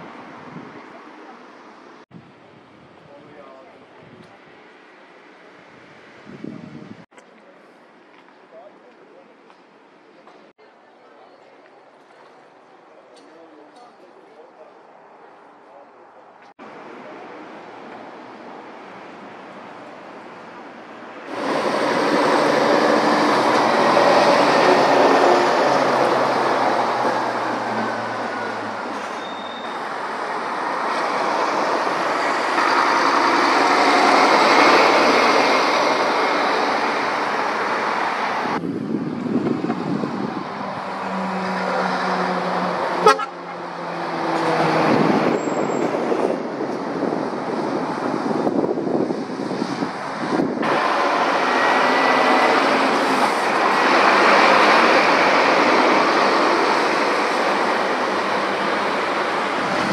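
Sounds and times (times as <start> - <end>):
lorries driving past: 11.4 - 59.9.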